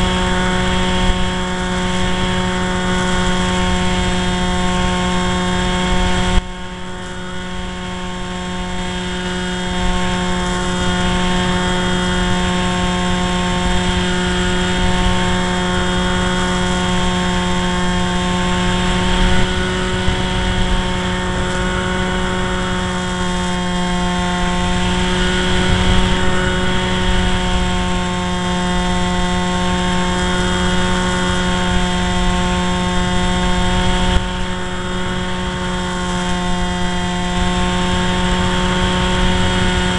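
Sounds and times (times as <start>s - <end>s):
steady hum: 0.0s - 39.9s
wind rumbling on microphone: 0.0s - 39.9s.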